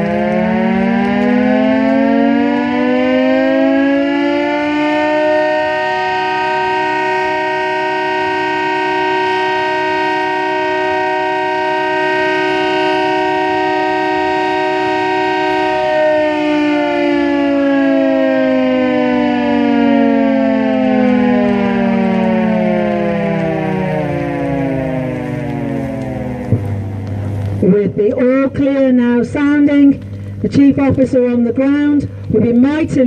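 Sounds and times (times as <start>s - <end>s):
air raid siren: 0.0s - 33.0s.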